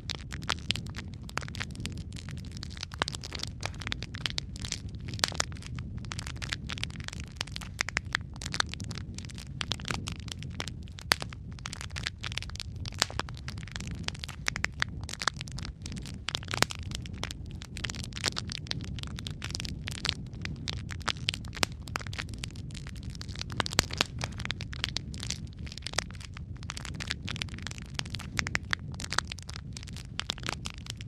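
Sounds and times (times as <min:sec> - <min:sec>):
fire snapping and popping: 0:00.0 - 0:31.0
low rumble of flames: 0:00.0 - 0:31.0.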